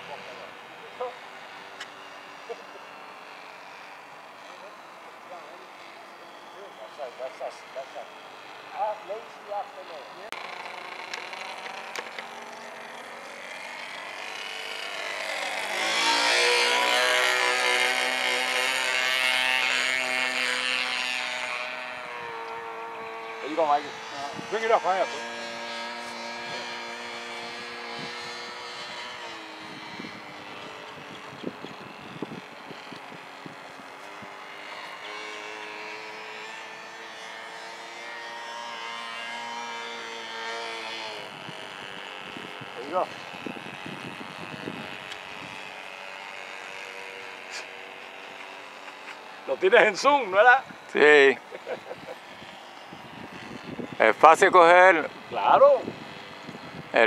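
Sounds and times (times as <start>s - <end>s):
model airplane engine passing: 0.0s - 57.0s.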